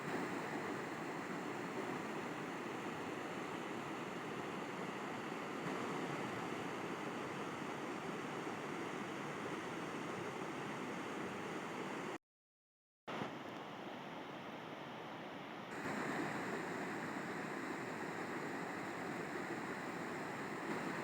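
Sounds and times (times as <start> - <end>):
river water rushing: 0.0 - 12.1, 15.7 - 21.0.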